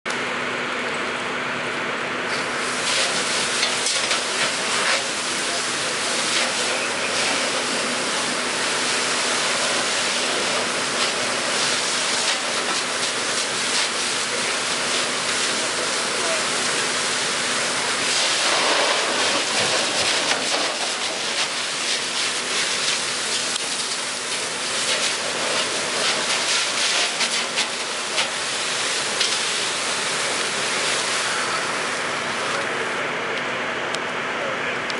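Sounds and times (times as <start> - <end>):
water hose spraying hiss: 2.3 - 32.6.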